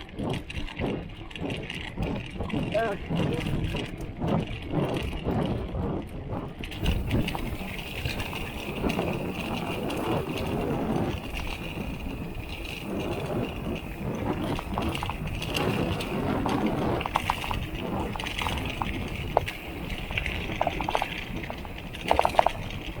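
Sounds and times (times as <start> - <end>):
mountain bike riding noise: 0.0 - 23.0
sharp clicks and rattles: 0.0 - 23.0.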